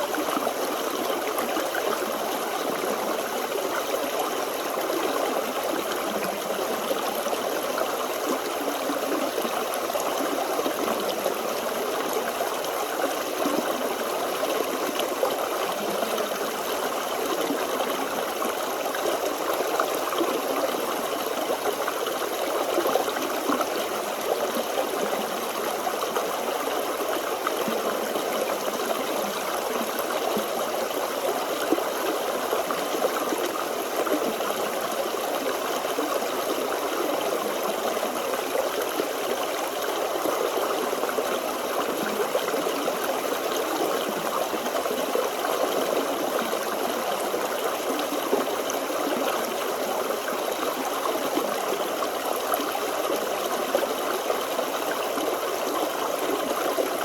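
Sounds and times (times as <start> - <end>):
stream gurgling over stones: 0.0 - 57.0.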